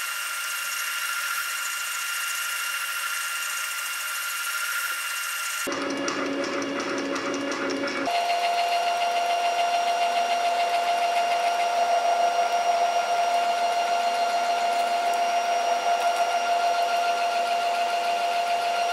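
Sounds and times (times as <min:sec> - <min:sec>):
stepper motor whine: 0:00.0 - 0:18.9.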